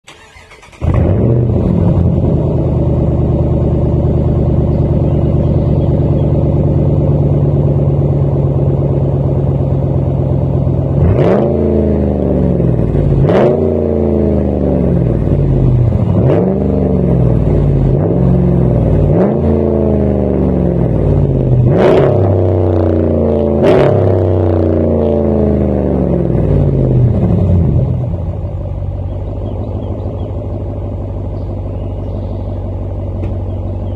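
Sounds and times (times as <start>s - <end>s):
engine idling and revving: 0.0s - 33.9s.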